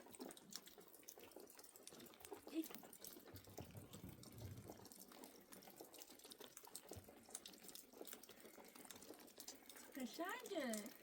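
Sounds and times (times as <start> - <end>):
small ticks and clicks: 0.0 - 11.0.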